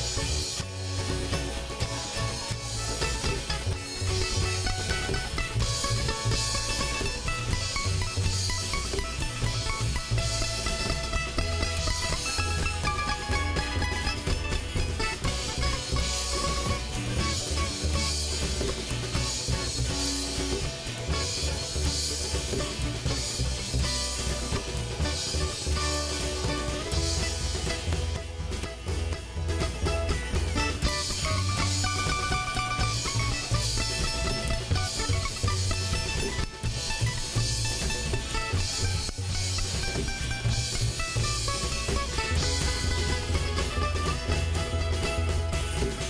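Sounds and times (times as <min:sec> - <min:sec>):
bass guitar: 0:00.0 - 0:46.0
drum kit: 0:00.0 - 0:46.0
electric guitar lines: 0:00.0 - 0:46.0
rock band playing instrumental: 0:00.0 - 0:46.0.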